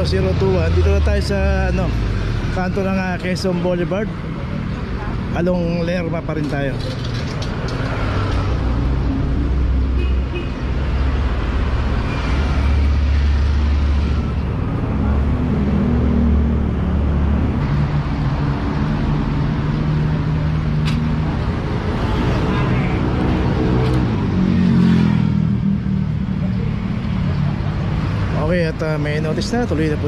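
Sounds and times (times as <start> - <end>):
tyre and road noise: 0.0 - 30.0
vehicle engines rumbling: 0.0 - 30.0.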